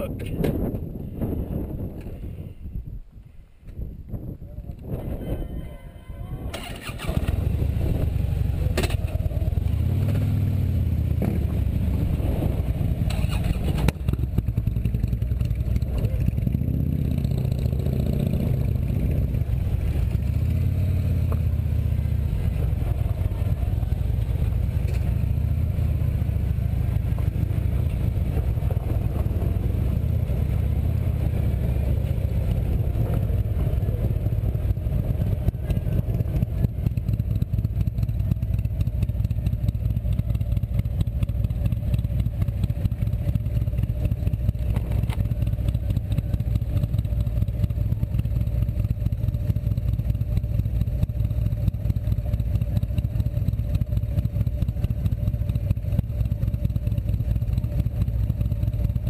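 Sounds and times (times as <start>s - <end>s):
motorcycle engine accelerating: 6.4s - 59.0s.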